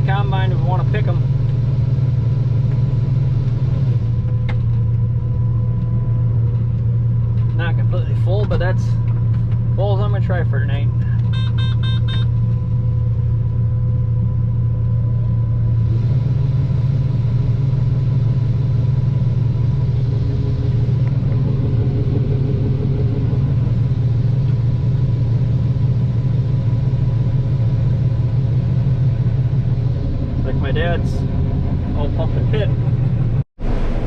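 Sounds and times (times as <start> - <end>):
combine harvester humming: 0.0 - 34.0.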